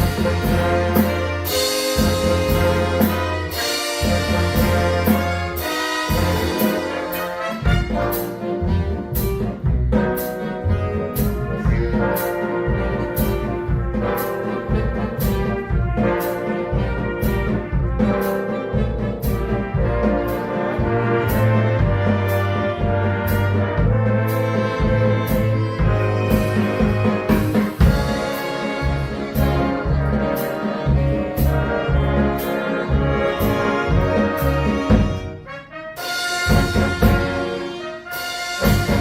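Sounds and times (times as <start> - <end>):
walking bass line: 0.0 - 35.4
big band swing music: 0.0 - 39.0
drums and cymbal beat: 0.0 - 39.0
trumpets and trombones: 0.0 - 39.0.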